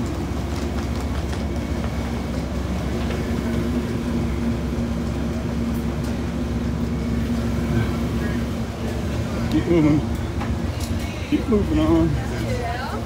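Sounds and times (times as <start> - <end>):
train equipment humming: 0.0 - 13.0.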